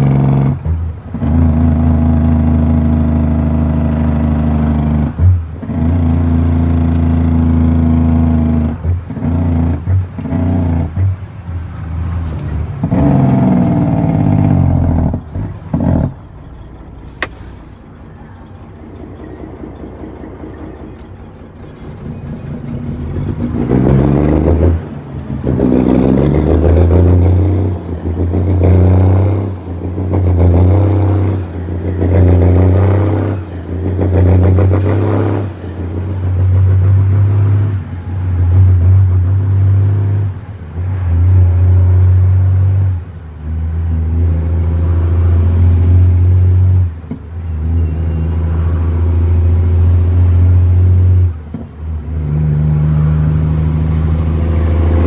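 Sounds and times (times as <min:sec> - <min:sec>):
diesel truck engine pulling: 0:00.0 - 0:55.0.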